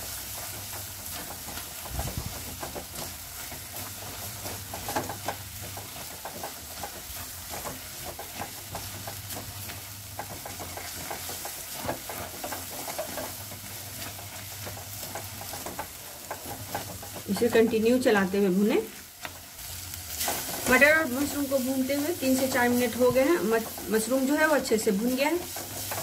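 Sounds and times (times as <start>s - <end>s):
vegetables sizzling in a pan: 0.0s - 26.0s
spatula scraping and tapping a pan: 0.1s - 26.0s.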